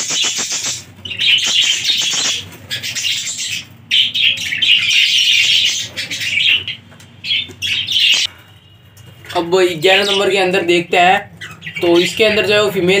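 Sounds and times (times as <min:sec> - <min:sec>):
budgerigars chattering and warbling: 0:00.0 - 0:08.3, 0:09.2 - 0:13.0.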